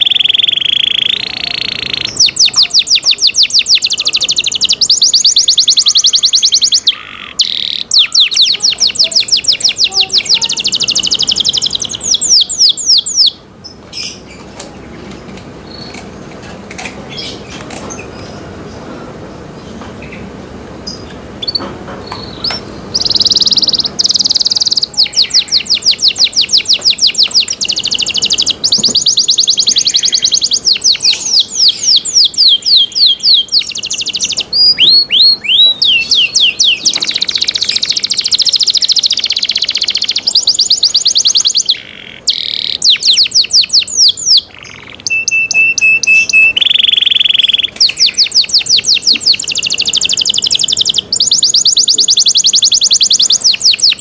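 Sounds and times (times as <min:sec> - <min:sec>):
canary singing trills: 0:00.0 - 0:16.1, 0:17.1 - 0:54.0.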